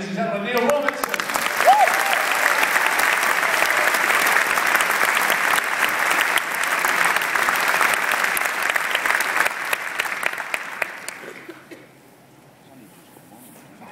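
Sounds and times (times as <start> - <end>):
crowd applauding: 0.6 - 11.8.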